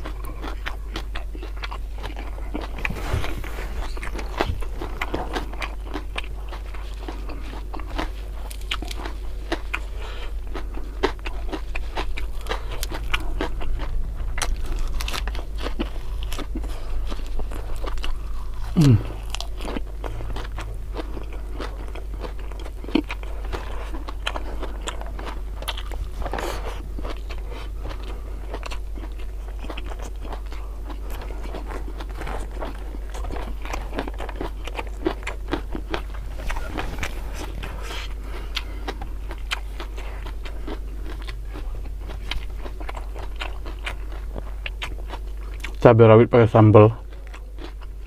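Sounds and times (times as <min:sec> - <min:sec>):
low hum: 0:00.0 - 0:48.0
person chewing crunchy food: 0:00.0 - 0:48.0.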